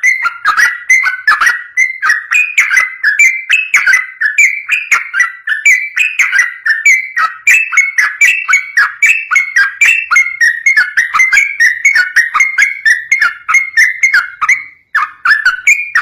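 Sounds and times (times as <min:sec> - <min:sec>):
bird singing bubbly notes: 0:00.0 - 0:16.0.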